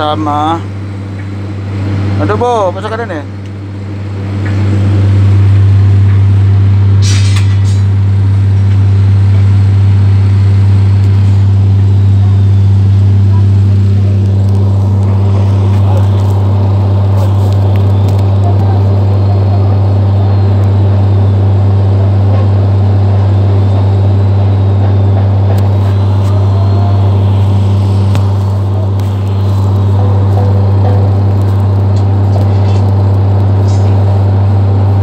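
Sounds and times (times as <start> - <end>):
diesel engine hum from cab: 0.0 - 35.0.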